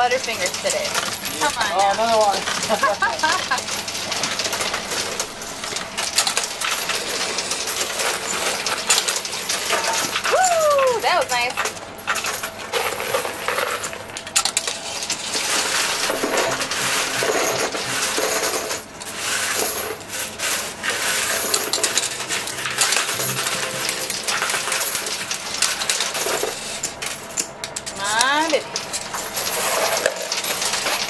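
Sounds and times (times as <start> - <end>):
coins clinking in coin pusher: 0.0 - 31.0.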